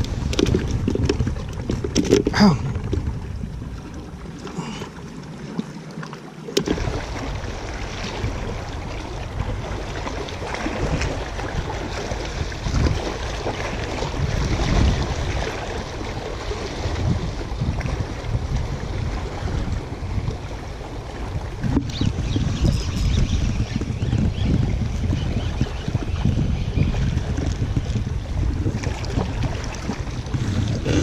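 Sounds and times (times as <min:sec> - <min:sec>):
wind buffeting microphone: 0:00.0 - 0:04.8, 0:06.7 - 0:31.0
waves washing against rocks: 0:00.0 - 0:05.6, 0:06.4 - 0:24.2, 0:27.1 - 0:31.0.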